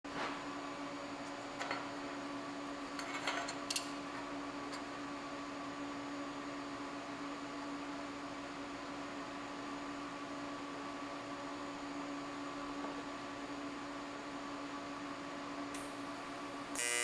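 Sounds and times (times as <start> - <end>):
electrical hum: 0.1 - 17.0.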